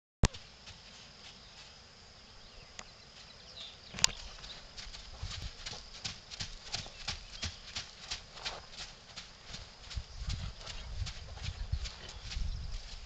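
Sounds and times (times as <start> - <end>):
horse hooves trotting on sand: 0.3 - 2.0, 2.8 - 13.0.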